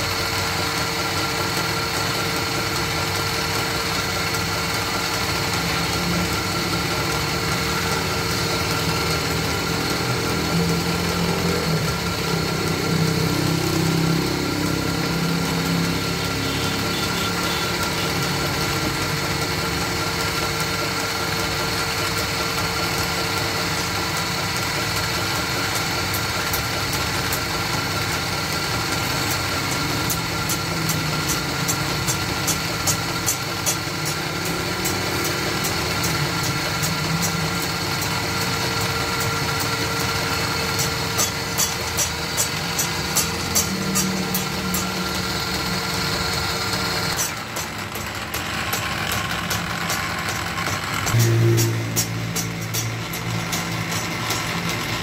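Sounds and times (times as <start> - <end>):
lathe motor humming: 0.0 - 55.0.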